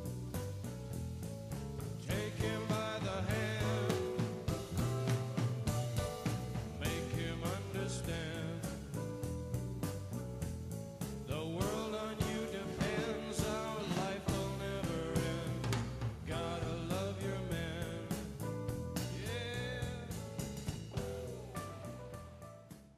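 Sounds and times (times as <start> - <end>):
rock music with singing: 0.0 - 22.9.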